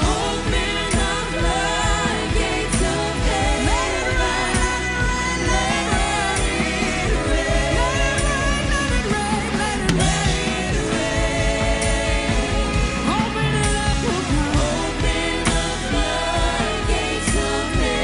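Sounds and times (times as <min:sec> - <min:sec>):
worship band music: 0:00.0 - 0:18.0.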